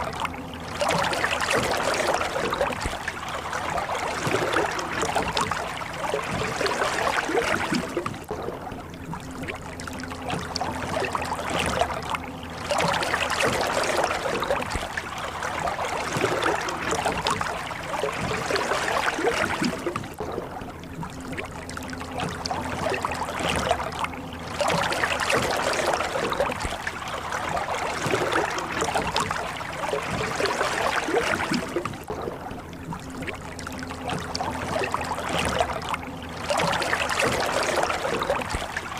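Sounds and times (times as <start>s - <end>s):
oars splashing in water: 0.0s - 38.9s.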